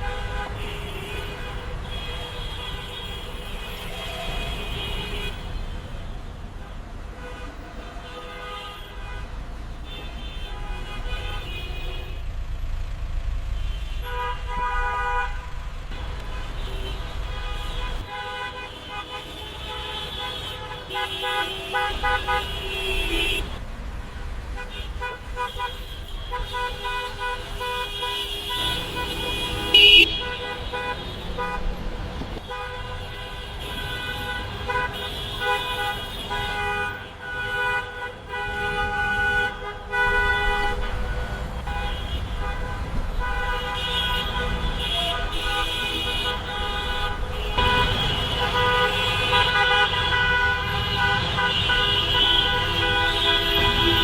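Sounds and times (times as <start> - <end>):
car horns honking: 0.0 - 54.0
low traffic rumble: 0.0 - 54.0.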